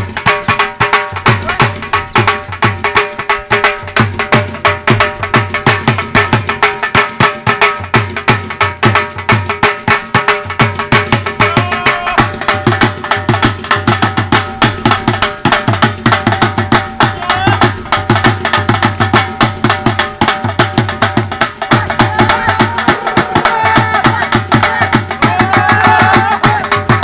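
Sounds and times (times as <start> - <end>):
dhol drum beat: 0.0 - 27.0.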